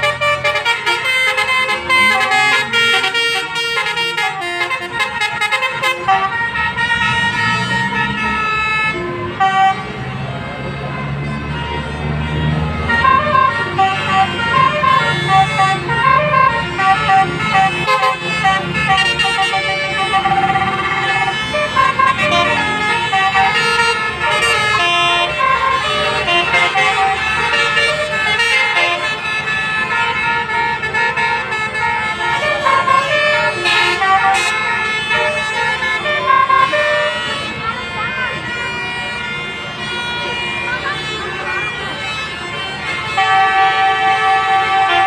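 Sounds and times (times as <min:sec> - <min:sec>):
multi-tone bus horn melody: 0:00.0 - 0:45.0.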